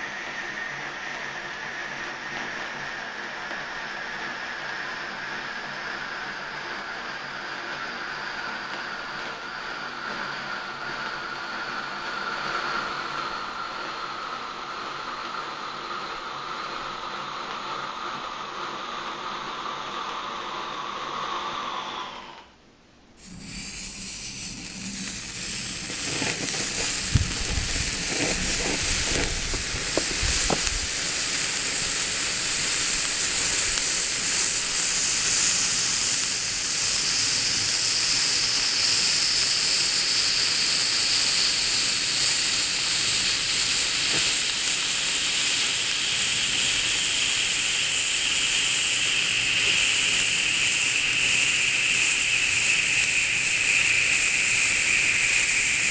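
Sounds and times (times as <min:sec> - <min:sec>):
spark fountains hissing: 0:00.0 - 0:22.5, 0:23.1 - 0:55.9.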